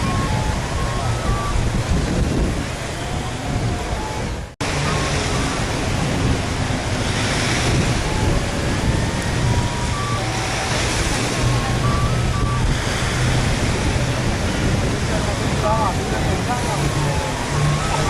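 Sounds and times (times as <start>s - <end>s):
loud rushing noise: 0.0s - 18.0s.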